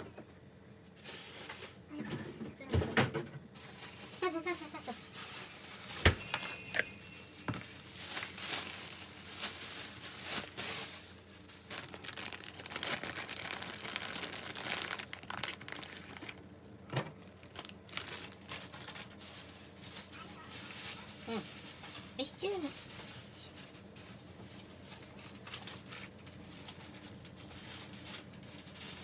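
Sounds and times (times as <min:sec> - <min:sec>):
plastic packaging crinkling: 0:03.6 - 0:29.0.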